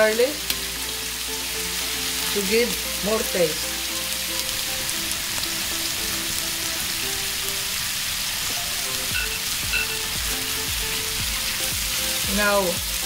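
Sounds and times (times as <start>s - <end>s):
steak sizzling in butter: 0.0s - 13.0s.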